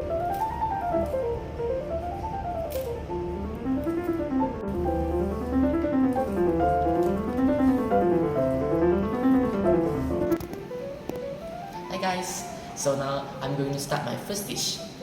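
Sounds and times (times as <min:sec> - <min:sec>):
piano music with quick runs: 0:00.0 - 0:15.0.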